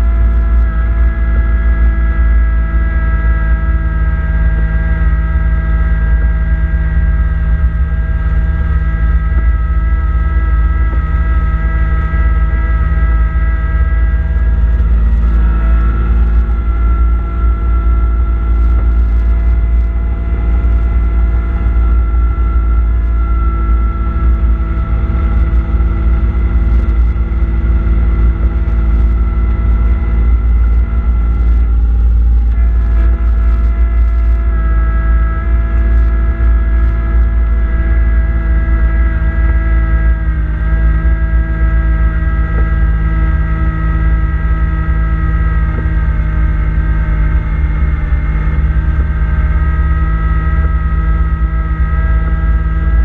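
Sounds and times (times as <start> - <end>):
snowblower rumble: 0.0 - 53.0
tractor diesel engine running: 0.0 - 53.0.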